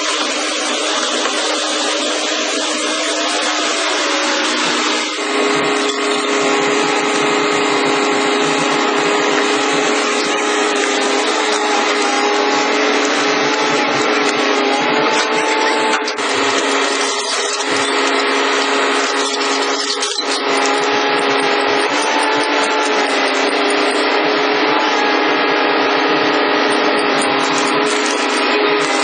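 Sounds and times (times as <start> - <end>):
hydraulic machinery whine: 0.0 - 29.0.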